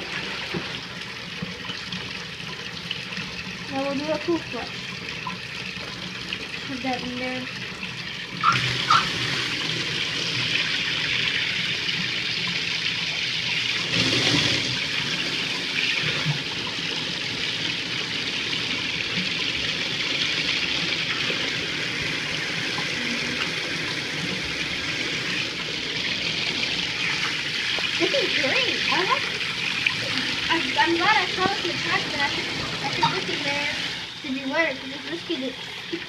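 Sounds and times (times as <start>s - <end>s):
toilet flushing: 0.0s - 36.0s.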